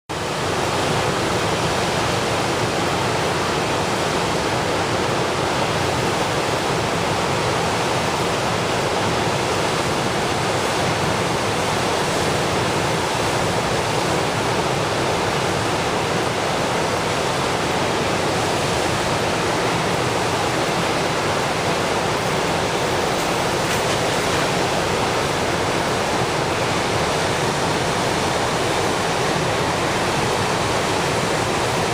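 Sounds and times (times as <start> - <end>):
river water rushing: 0.1 - 31.9.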